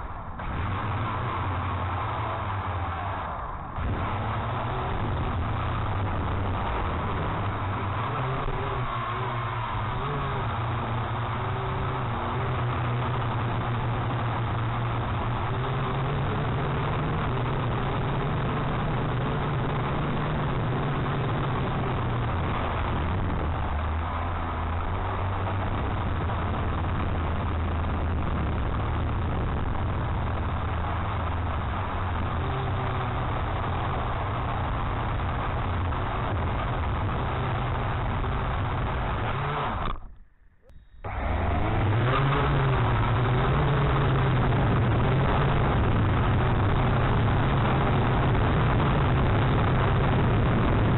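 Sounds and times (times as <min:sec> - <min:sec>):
low hum: 0:00.0 - 0:50.9.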